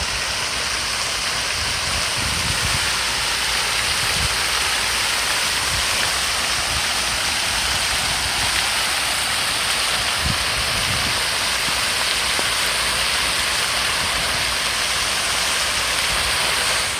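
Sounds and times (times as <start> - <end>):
fountain water splashing: 0.0 - 16.9.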